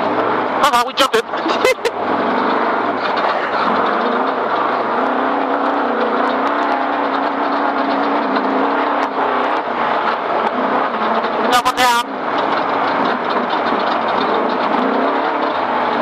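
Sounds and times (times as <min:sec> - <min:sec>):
race vehicle engine droning: 0:00.0 - 0:16.0
vehicle knocks and rattles: 0:01.2 - 0:16.0.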